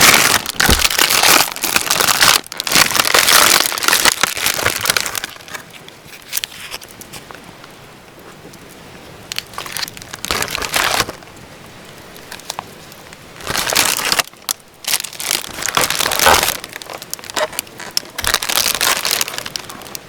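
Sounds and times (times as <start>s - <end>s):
crinkling crackling rustle: 0.0s - 20.0s.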